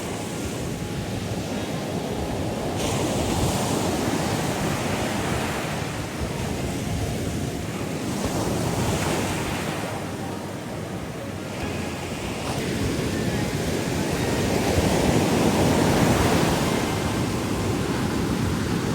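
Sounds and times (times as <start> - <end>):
ocean surf rushing: 0.0 - 18.9.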